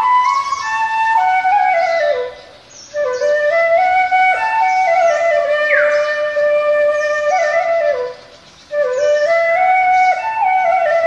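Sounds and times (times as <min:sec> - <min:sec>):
solo flute melody: 0:00.0 - 0:11.0.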